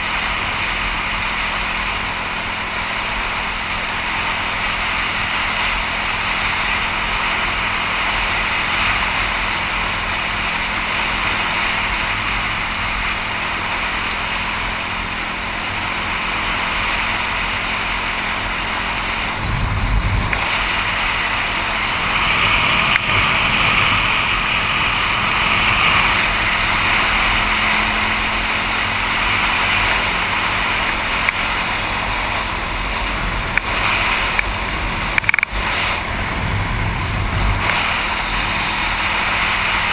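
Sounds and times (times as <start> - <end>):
dirt bike engine running: 0.0 - 39.9
wind roar over microphone: 0.0 - 39.9.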